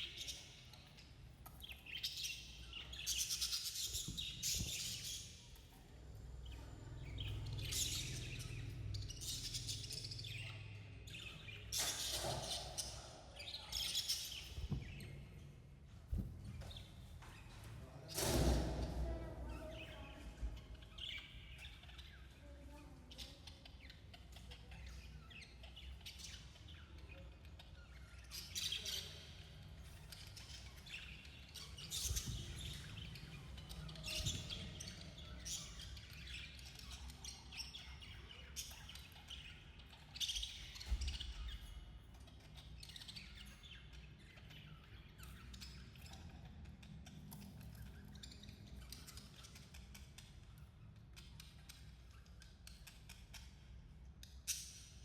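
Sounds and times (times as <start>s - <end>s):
budgerigars chirping: 0.0s - 15.5s, 23.1s - 55.0s.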